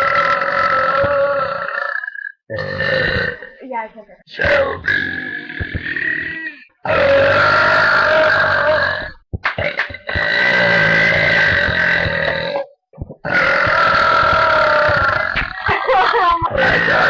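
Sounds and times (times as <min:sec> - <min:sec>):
girls burping loudly: 0:00.0 - 0:03.6, 0:04.4 - 0:09.2, 0:09.9 - 0:17.0.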